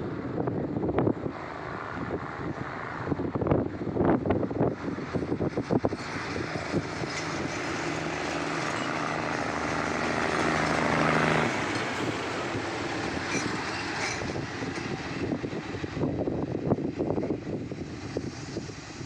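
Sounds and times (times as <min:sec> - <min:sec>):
diesel locomotive engine: 0:00.0 - 0:19.0
wind buffeting microphone: 0:00.0 - 0:19.0
train coaches rolling on rails: 0:03.6 - 0:19.0.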